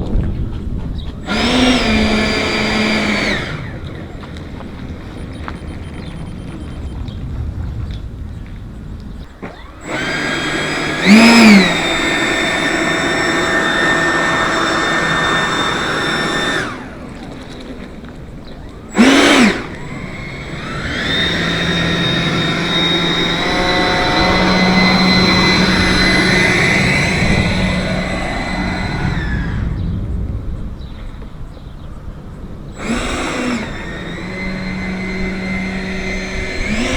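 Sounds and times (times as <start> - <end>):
electric fan motor whining: 0.0 - 36.9.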